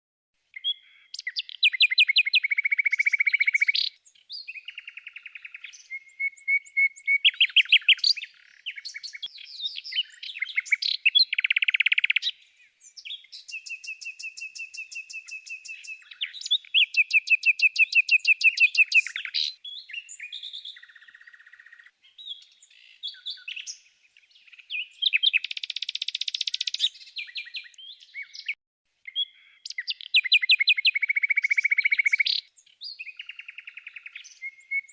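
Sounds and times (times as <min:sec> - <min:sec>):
songbirds trilling and chirping: 0:00.4 - 0:34.9.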